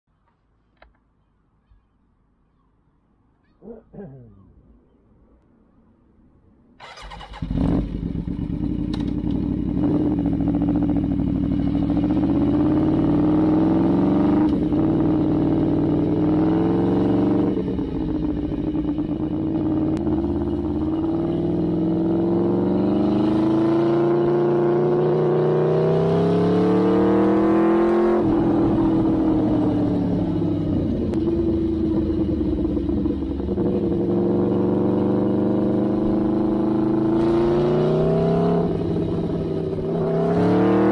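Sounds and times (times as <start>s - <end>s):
motorcycle engine revving: 6.8s - 40.9s.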